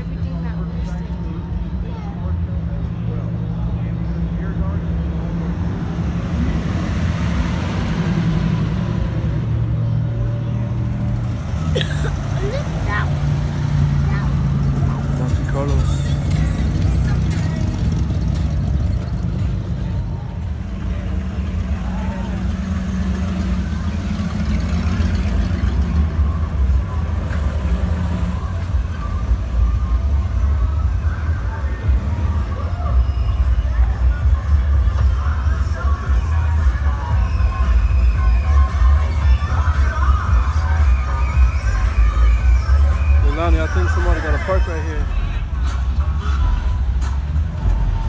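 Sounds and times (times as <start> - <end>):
car engines rumbling: 0.0 - 48.0.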